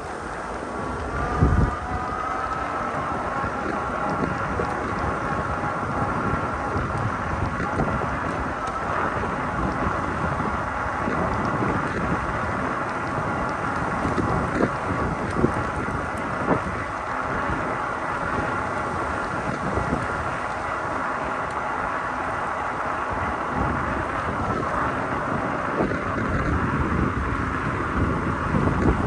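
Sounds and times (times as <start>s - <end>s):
bicycle tyre noise: 0.0s - 29.0s
wind buffeting microphone: 0.0s - 29.0s.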